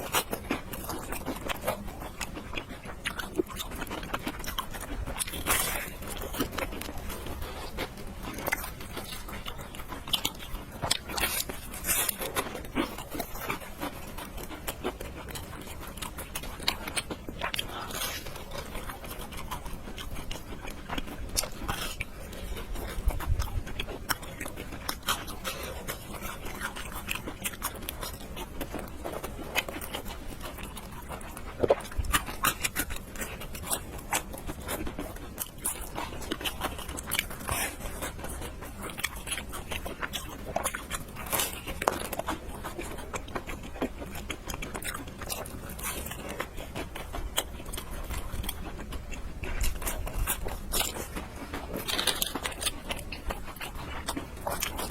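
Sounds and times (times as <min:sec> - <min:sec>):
person chewing and slurping noodles: 0:00.0 - 0:54.9.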